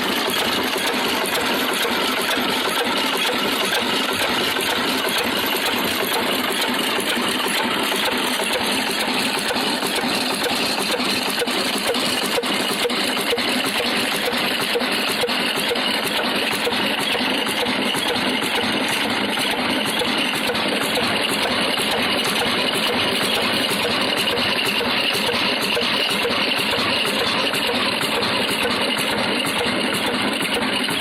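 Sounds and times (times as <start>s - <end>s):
diesel engine running: 0.0s - 31.0s
stone grinder clattering: 0.0s - 31.0s.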